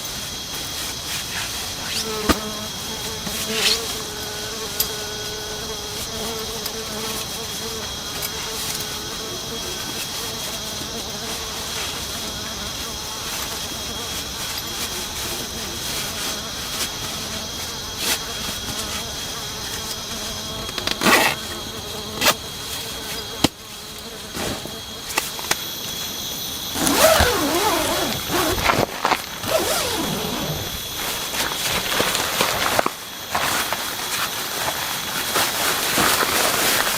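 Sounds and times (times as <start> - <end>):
insects buzzing: 0.0 - 36.9.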